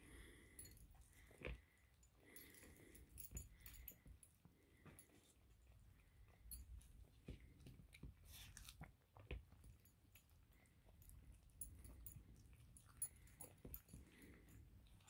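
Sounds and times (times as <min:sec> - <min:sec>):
cat chewing: 0:00.1 - 0:15.0.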